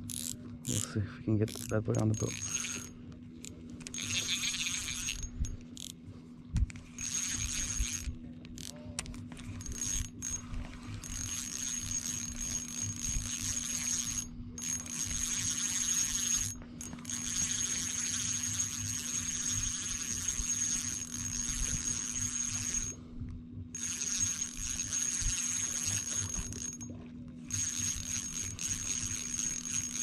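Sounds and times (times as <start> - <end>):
fishing reel gears whirring: 0.0 - 23.0, 23.7 - 30.0.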